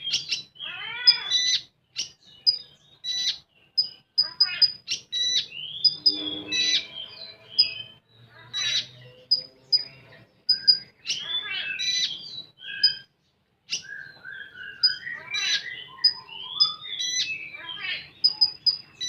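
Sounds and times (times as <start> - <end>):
sunbird singing: 0.0 - 19.0.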